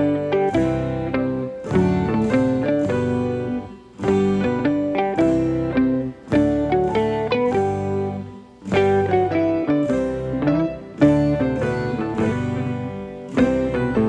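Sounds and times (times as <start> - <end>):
plucked-string melody: 0.0 - 14.0.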